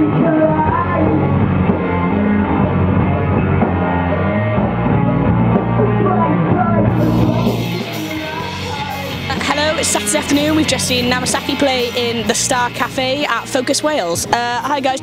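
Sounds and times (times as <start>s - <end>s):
rock music with singer: 0.0s - 15.0s.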